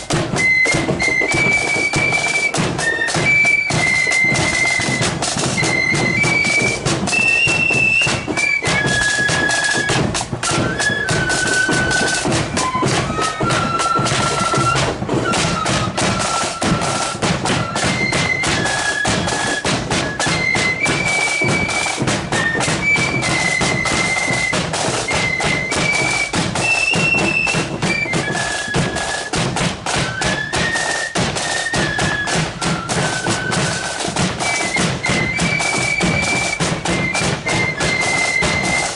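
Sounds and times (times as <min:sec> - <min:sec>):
flutes playing a shrill melody: 0:00.0 - 0:38.9
snare drumming: 0:00.0 - 0:38.9.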